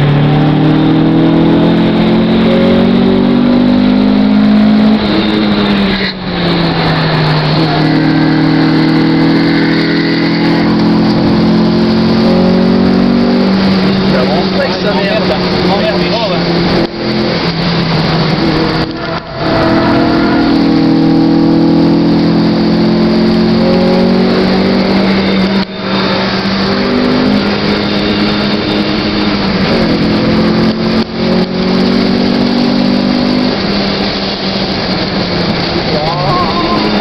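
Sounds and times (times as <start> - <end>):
car engine pulling hard: 0.0 - 37.0
wind and tyre noise: 0.0 - 37.0.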